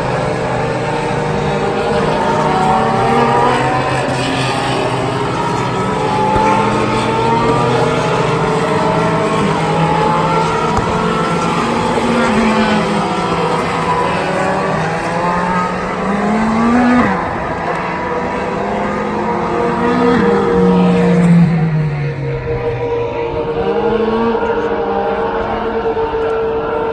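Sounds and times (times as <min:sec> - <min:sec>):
racing car engines revving: 0:00.0 - 0:26.9.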